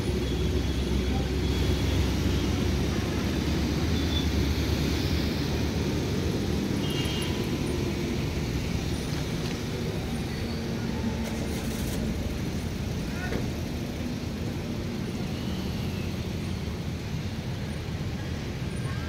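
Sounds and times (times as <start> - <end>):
car engines rumbling: 0.0 - 19.0
outdoor traffic noise: 0.0 - 19.0.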